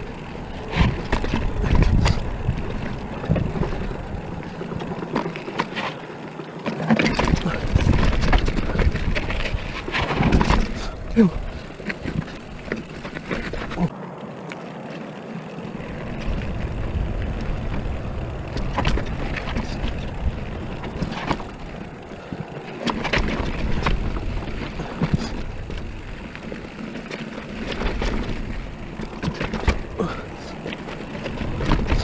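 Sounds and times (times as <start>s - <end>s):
wind buffeting microphone: 0.0s - 5.6s, 7.1s - 14.0s, 14.9s - 32.0s
bike clicks and rattles: 0.0s - 32.0s
tyres rolling over dirt: 0.0s - 32.0s.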